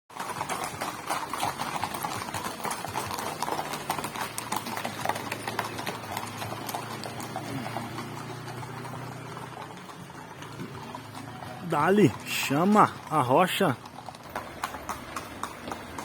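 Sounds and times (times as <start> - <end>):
horse hooves clip-clopping: 0.1 - 16.0.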